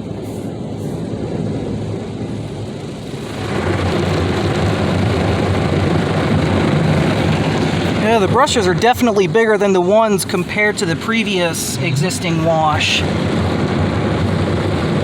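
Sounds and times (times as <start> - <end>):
car wash brushes and water spraying: 0.0 - 15.0.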